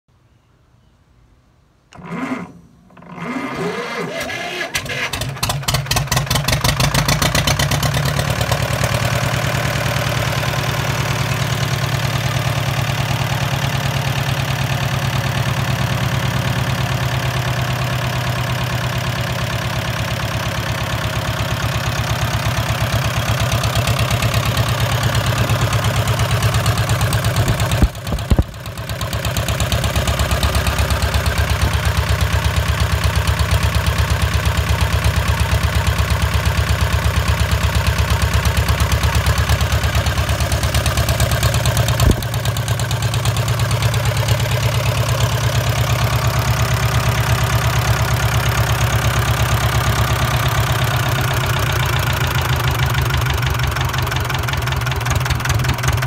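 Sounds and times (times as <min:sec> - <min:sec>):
diesel engine starting and running: 0:01.9 - 0:56.0.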